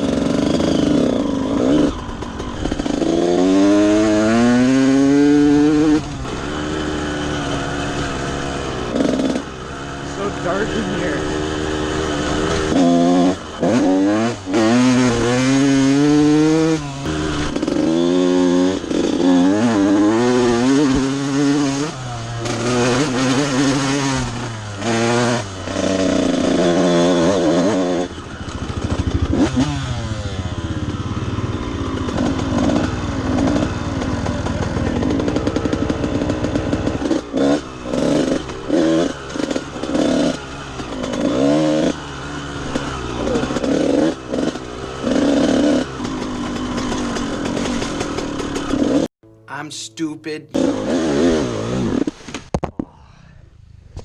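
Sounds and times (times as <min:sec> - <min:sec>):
dirt bike engine revving: 0:00.0 - 0:52.1.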